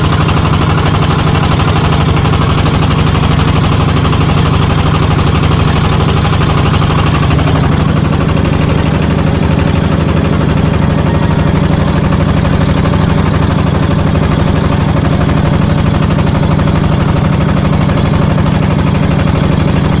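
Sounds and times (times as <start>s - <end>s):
small boat engine running: 0.0s - 20.0s.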